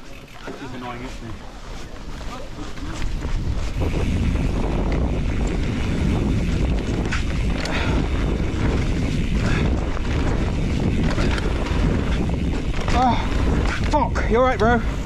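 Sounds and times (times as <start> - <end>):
bike tyres rumbling on dirt: 0.0 - 15.0
wind buffeting microphone: 1.0 - 15.0.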